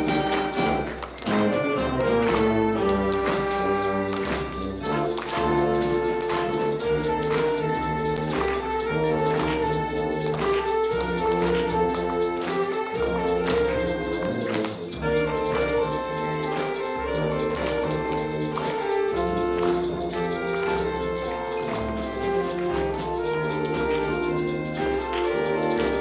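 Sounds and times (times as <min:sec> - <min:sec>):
school band brass chords: 0:00.0 - 0:26.0
steady drum beat: 0:00.0 - 0:26.0.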